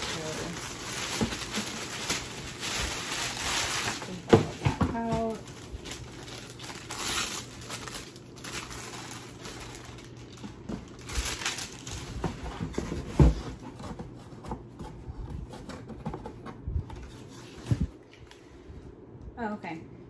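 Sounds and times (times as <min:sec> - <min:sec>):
packaging rustling and crinkling: 0:00.0 - 0:18.5.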